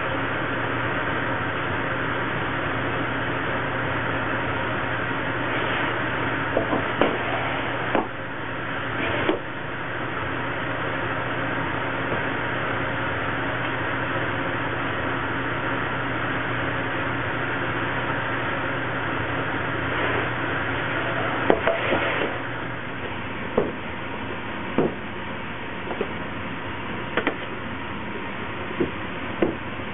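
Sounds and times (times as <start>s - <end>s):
bakery machinery humming: 0.0s - 29.9s.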